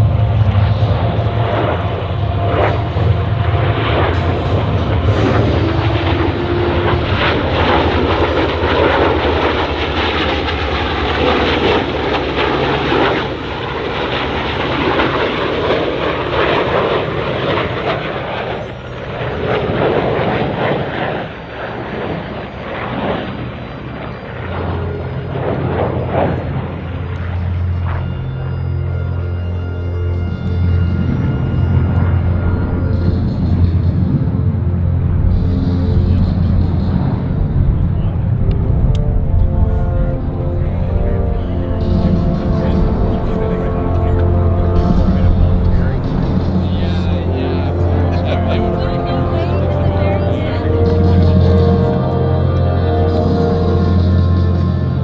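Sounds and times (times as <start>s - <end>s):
jet engine rush: 0.0s - 28.6s, 30.1s - 55.0s
deep propeller engine hum: 0.0s - 55.0s.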